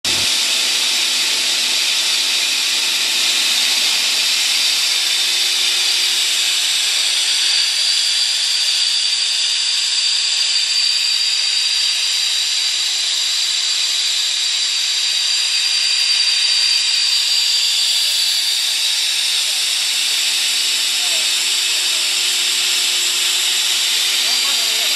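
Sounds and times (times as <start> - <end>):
machine hissing with high whine: 0.0 - 24.9.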